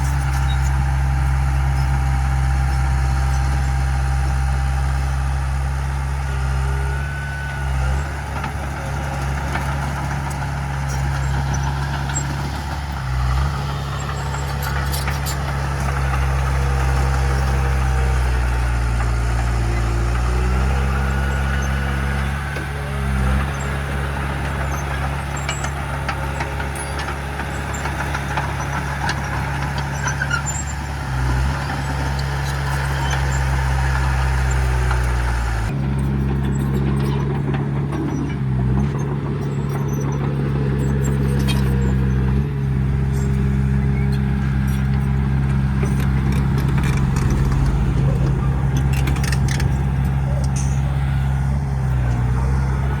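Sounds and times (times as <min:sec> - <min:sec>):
diesel machinery engine running: 0:00.0 - 0:53.0.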